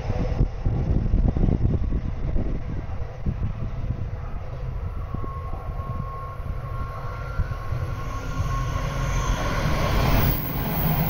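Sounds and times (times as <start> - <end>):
high-speed train passing: 0.0 - 11.0.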